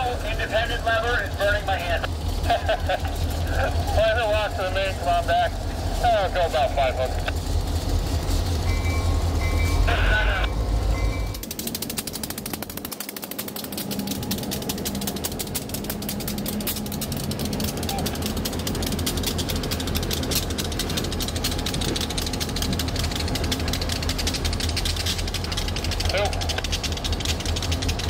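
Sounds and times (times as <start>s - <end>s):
diesel locomotive engines rumbling: 0.0s - 28.0s
rapid clicking and rattling: 0.0s - 28.0s.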